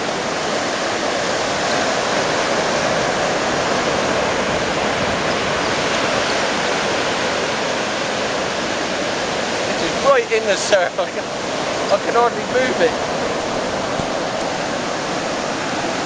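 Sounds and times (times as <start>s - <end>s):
surf breaking: 0.0s - 16.0s.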